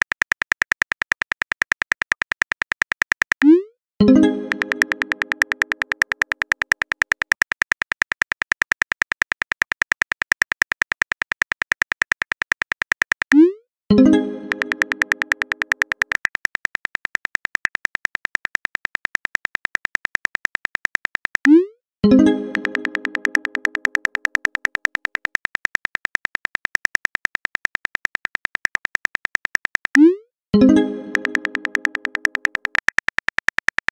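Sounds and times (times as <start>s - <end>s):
phone keyboard typing clicks: 0.0s - 33.9s.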